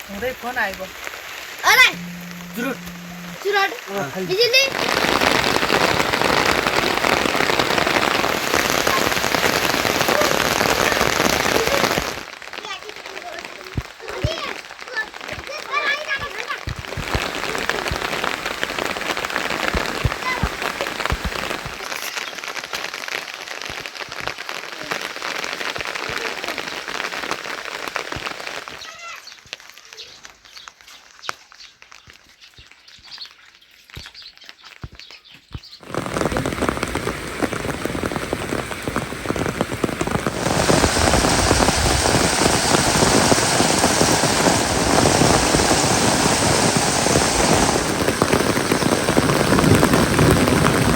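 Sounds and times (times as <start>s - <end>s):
heavy rain falling: 0.0s - 30.6s, 35.8s - 50.9s.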